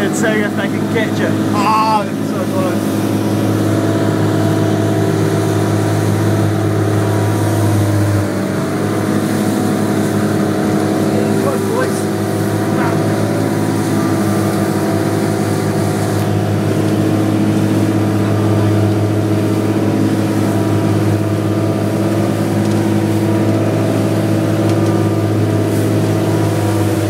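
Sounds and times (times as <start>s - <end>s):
boat engine droning: 0.0s - 27.0s
water rushing from wake: 0.0s - 27.0s.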